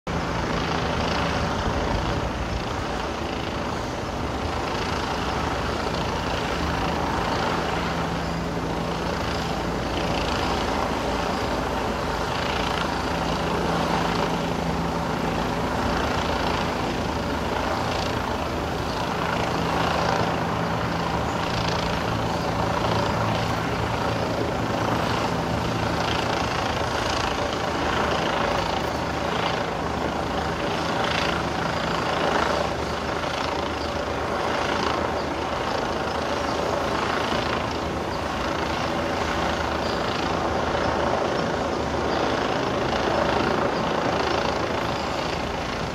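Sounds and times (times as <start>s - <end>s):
helicopter rotor drone: 0.0s - 45.9s.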